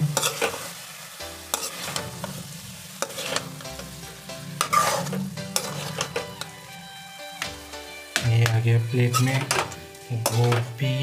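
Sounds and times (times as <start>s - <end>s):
light frying sizzle: 0.0s - 11.0s
metal spatula scraping a pan: 0.1s - 0.8s, 1.4s - 6.8s, 7.5s - 10.8s.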